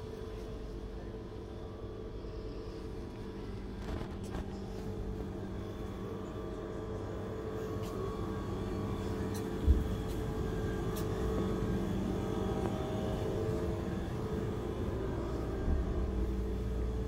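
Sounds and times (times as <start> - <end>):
refrigeration electrical hum: 0.0 - 17.0.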